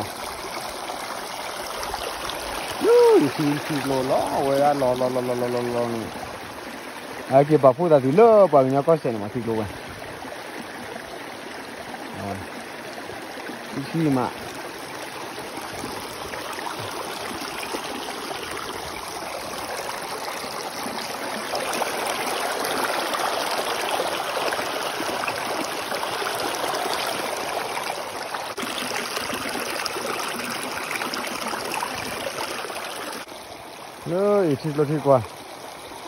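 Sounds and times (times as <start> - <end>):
creek water rushing over stones: 0.0 - 36.0.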